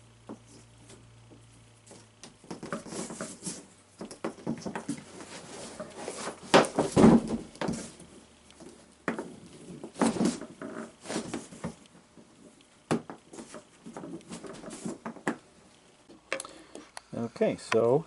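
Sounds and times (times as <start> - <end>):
handling knocks and rustles: 0.3 - 15.4.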